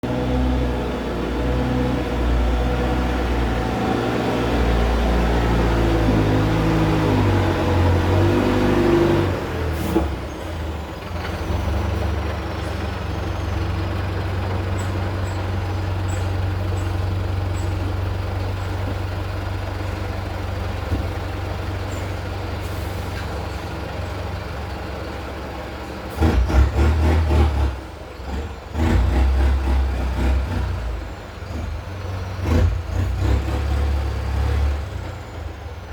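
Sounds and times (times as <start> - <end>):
diesel truck engine revving: 0.0 - 35.9.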